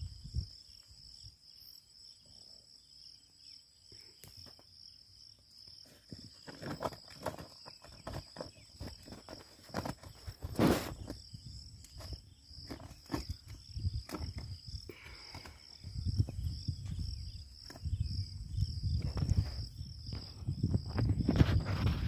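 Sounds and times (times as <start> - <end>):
insect chirring: 0.0 - 22.0.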